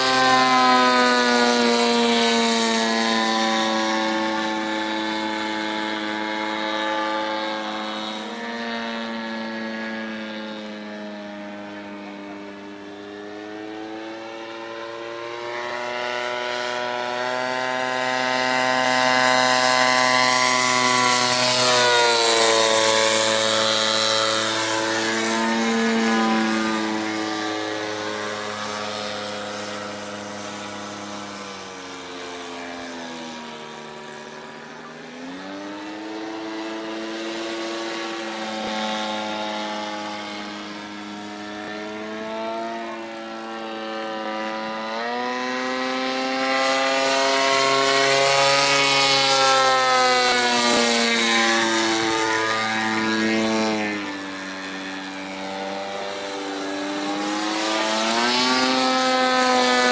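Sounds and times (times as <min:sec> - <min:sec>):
model plane engine rising and falling: 0:00.0 - 0:59.9.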